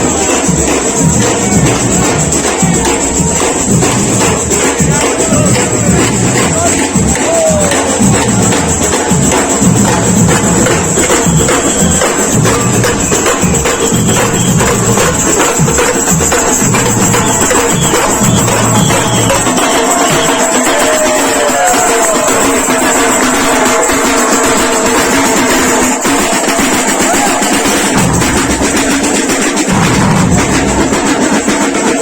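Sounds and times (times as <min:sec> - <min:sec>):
tambourine jingling: 0:00.0 - 0:29.7
loud music with percussion: 0:00.0 - 0:32.0.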